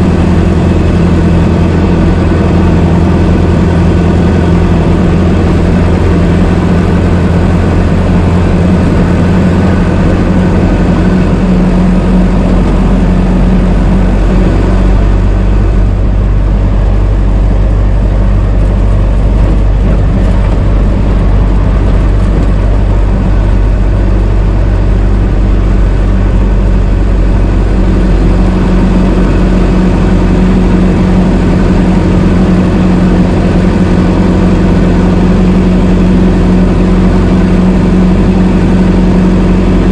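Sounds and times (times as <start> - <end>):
old car engine running: 0.0 - 39.9.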